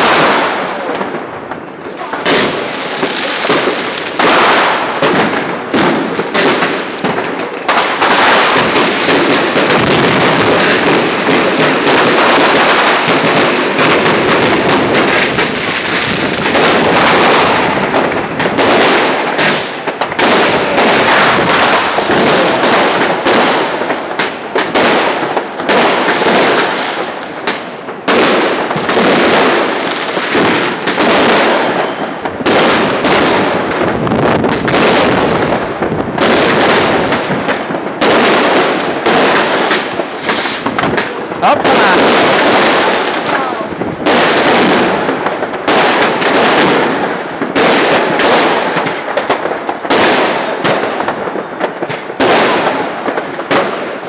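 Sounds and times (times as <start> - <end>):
fireworks and firecrackers crackling: 0.0 - 54.0.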